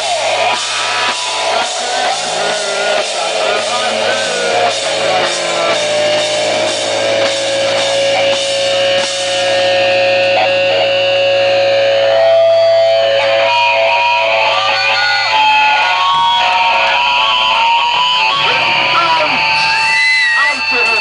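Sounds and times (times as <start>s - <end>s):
distorted electric guitars: 0.0s - 21.0s
driving drums: 0.0s - 21.0s.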